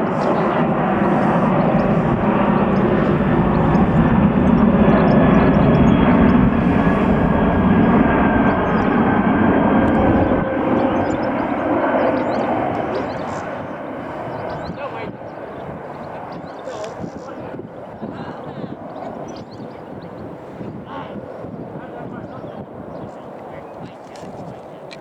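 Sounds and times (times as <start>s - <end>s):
jet aircraft flying past: 0.0s - 22.3s.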